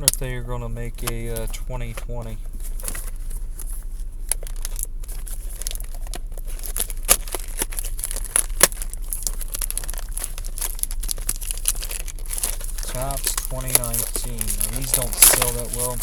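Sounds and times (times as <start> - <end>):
steady low hum: 0.0 - 16.0
wrapper crinkling and tearing: 2.6 - 16.0.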